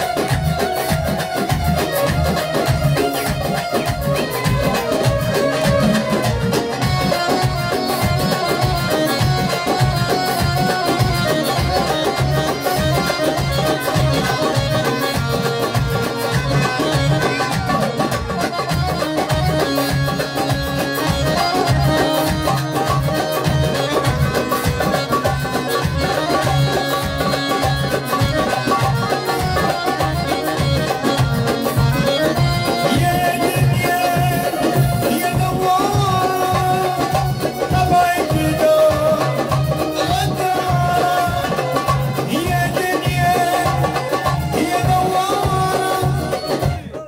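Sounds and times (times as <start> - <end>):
electronic keyboard melody: 0.0 - 47.0
percussion beat: 0.0 - 47.0.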